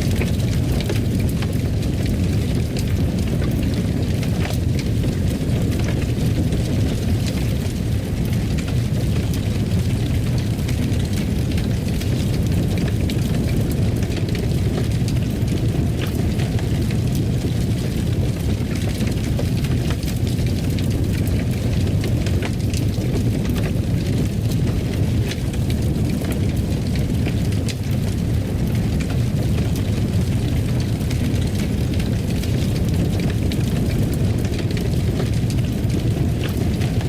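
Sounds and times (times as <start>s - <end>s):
fire burning in a fireplace: 0.0s - 37.0s
fire crackling and popping: 0.0s - 37.0s.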